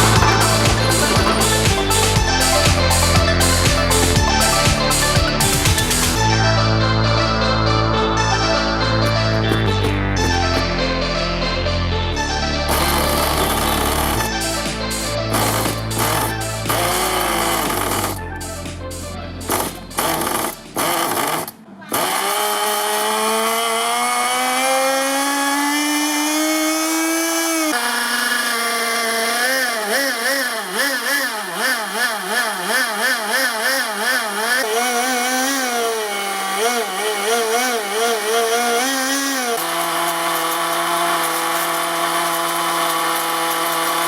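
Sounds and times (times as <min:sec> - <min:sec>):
rc engine revving: 0:00.0 - 0:06.8, 0:12.3 - 0:44.0.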